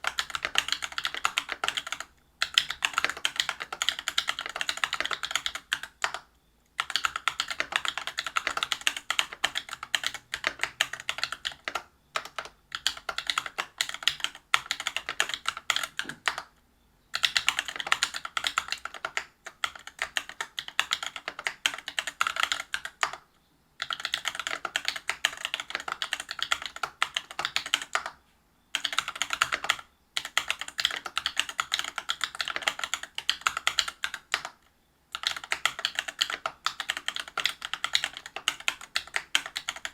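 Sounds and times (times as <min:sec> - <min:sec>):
mechanical keyboard typing: 0:00.0 - 0:06.2, 0:06.8 - 0:16.5, 0:17.1 - 0:23.2, 0:23.8 - 0:39.9.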